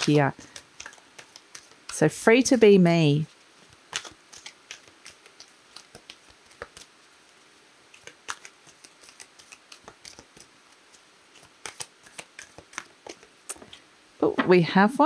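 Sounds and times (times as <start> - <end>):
cards being shuffled: 0.0 - 13.8.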